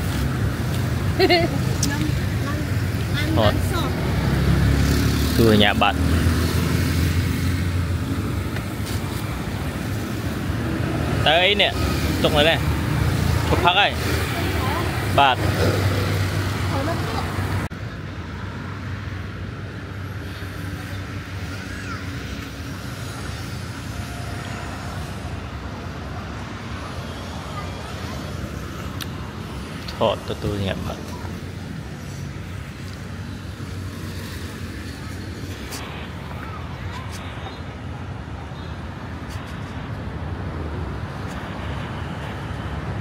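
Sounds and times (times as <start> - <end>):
street traffic engines humming: 0.0 - 43.0.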